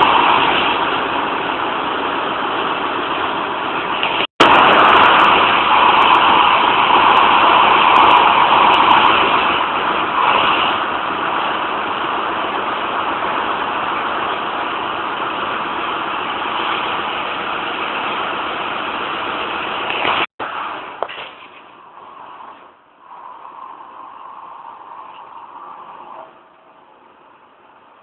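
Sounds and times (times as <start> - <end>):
engine room machinery running: 0.0 - 28.0.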